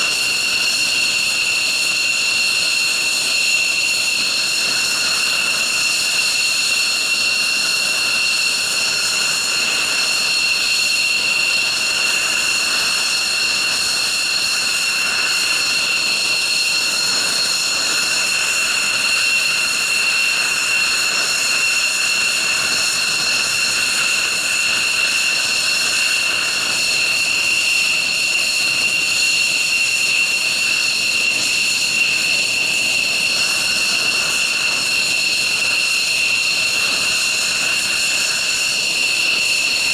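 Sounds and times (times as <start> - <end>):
jet engine idling whine: 0.0 - 39.9.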